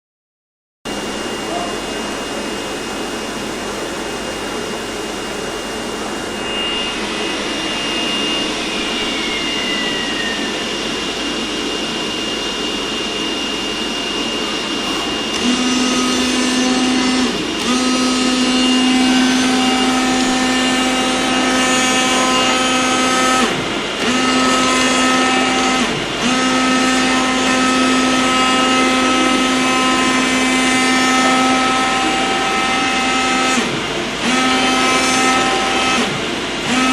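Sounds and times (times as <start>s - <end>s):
buzzing hum: 0.9s - 36.9s
cutting machine rushing noise: 0.9s - 36.9s.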